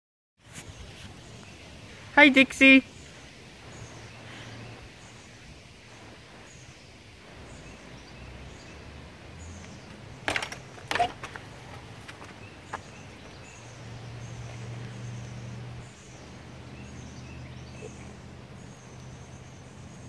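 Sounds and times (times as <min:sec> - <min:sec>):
faint songbirds chirping: 0:00.4 - 0:20.0.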